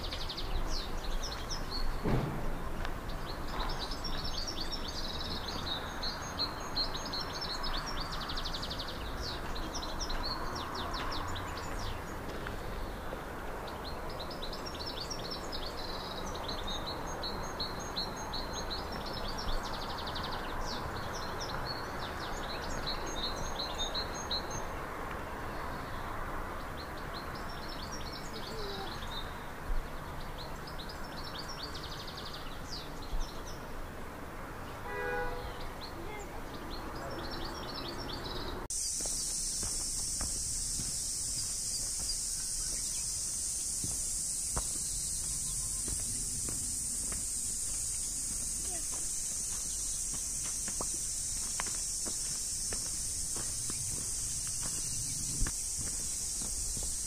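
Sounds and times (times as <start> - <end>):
rushing background noise: 0.0 - 57.0
songbirds chirping and trilling: 0.0 - 57.0.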